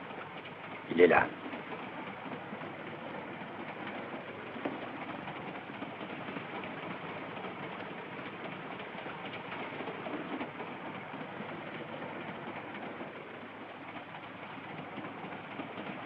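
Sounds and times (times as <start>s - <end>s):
train carriage running on rails: 0.0s - 16.0s.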